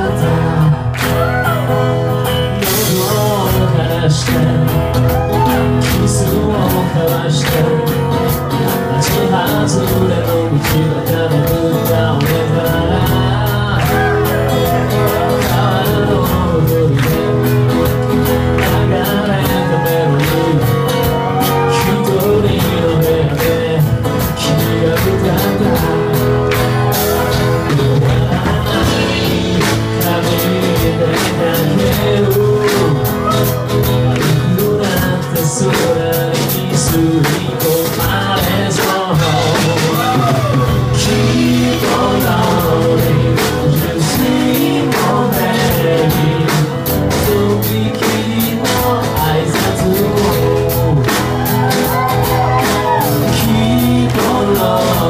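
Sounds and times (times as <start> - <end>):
acoustic guitar: 0.0 - 55.0
drum kit with cymbals: 0.0 - 55.0
person singing: 0.0 - 55.0.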